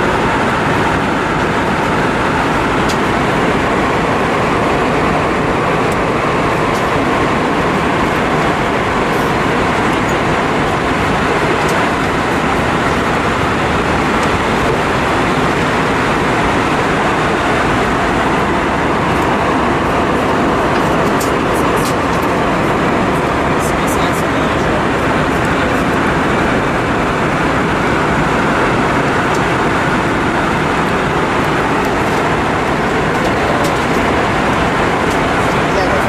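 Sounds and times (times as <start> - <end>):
engine drone: 0.0 - 36.0
rush of airflow: 0.0 - 36.0.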